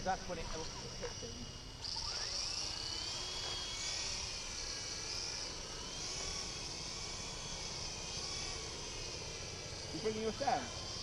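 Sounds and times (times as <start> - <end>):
toy helicopters whining in flight: 0.0 - 11.0.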